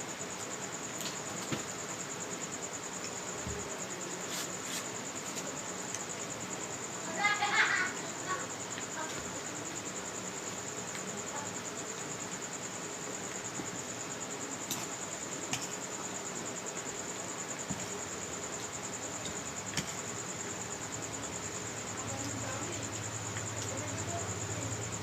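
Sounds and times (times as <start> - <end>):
background hiss: 0.0 - 25.0
crickets chirring: 0.0 - 25.0.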